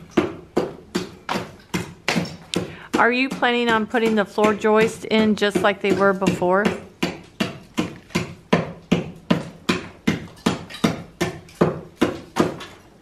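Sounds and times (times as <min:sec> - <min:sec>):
hammer striking brick: 0:00.1 - 0:12.8.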